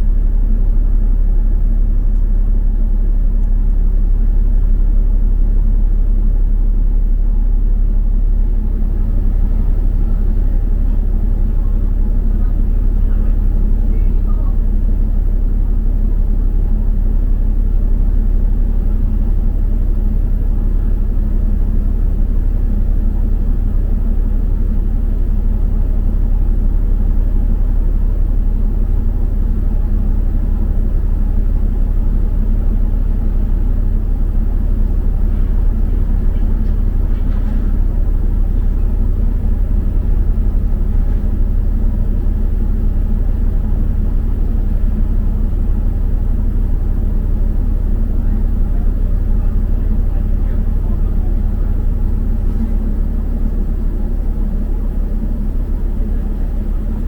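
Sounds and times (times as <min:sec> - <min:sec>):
bus engine and tyres rumbling: 0:00.0 - 0:57.0.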